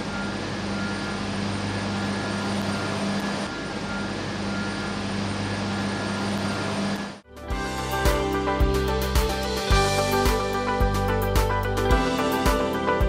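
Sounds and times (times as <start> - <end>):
turbine machinery roaring: 0.0 - 10.8.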